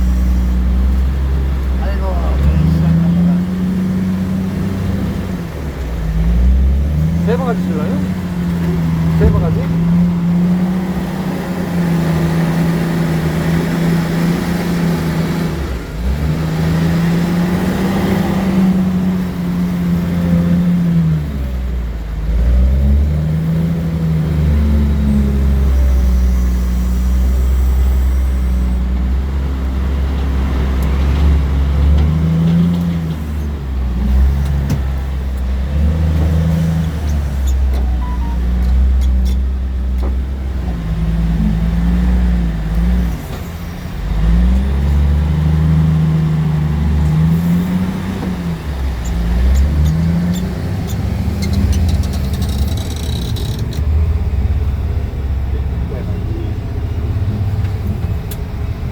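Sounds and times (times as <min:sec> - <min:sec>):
heavy diesel truck engine revving: 0:00.0 - 0:58.9.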